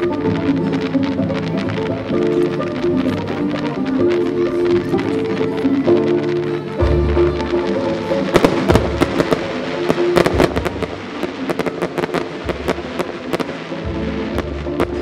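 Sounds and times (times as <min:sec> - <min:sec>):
fireworks cracking and popping: 0:00.0 - 0:15.0
music: 0:00.0 - 0:15.0.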